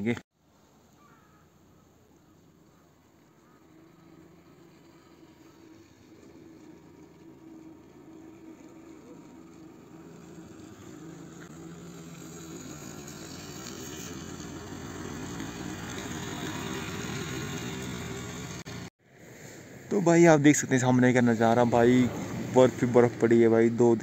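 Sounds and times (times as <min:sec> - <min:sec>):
motor scooter running: 0:01.0 - 0:18.9, 0:21.2 - 0:24.0.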